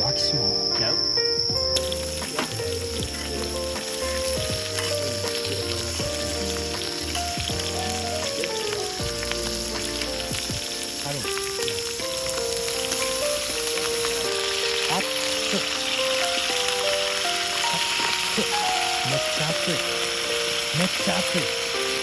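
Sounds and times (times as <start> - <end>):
background music of held notes: 0.0 - 22.0
food sizzling in hot oil: 0.0 - 22.0.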